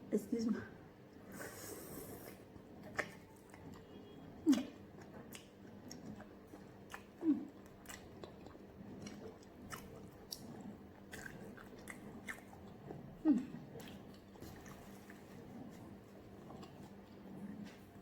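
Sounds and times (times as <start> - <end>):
chewing and biting meat: 2.3 - 18.0.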